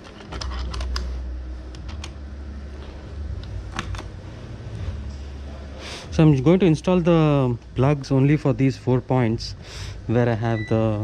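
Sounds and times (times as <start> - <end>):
steady low rumble: 0.5 - 11.0.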